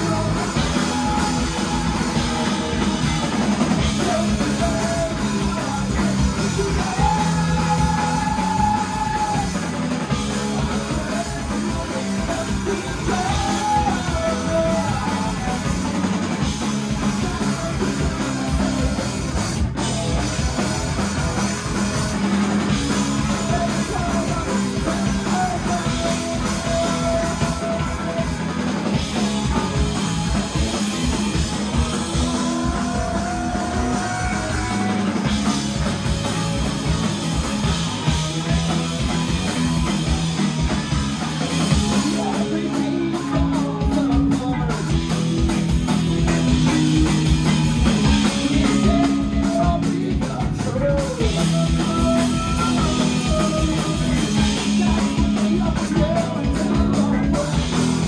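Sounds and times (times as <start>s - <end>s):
bass guitar: 0.0s - 58.0s
drum kit: 0.0s - 58.0s
electric guitar: 0.0s - 58.0s
punk rock band playing: 0.0s - 58.0s.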